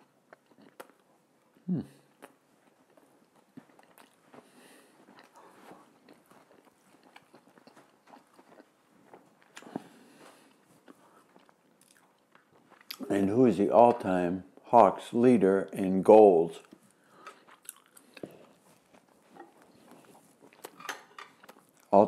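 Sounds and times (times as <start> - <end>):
wet chewing mouth clicks: 0.3 - 13.1, 16.6 - 21.9.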